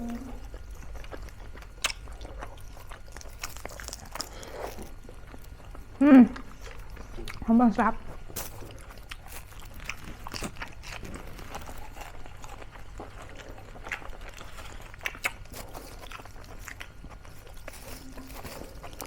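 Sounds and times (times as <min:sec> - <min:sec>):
crunchy chewing: 0:00.1 - 0:19.0.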